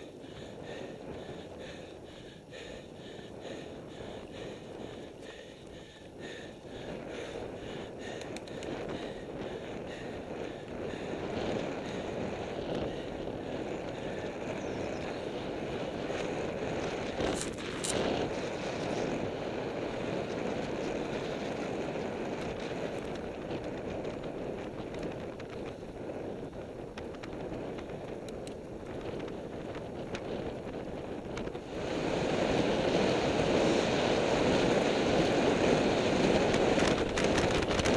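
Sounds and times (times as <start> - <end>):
bike tyre rush: 0.0 - 37.9
wind buffeting microphone: 0.0 - 37.9.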